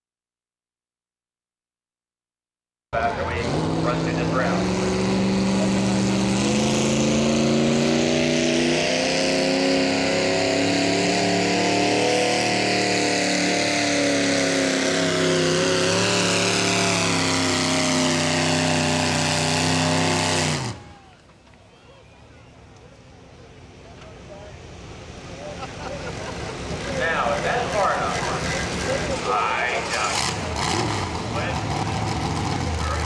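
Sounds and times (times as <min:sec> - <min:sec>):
tractor engine revving: 0:03.0 - 0:21.4, 0:23.2 - 0:33.0.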